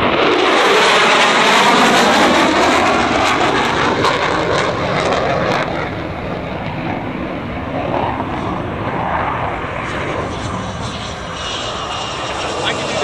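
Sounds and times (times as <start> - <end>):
jet fighter passing with crackles: 0.0 - 13.0.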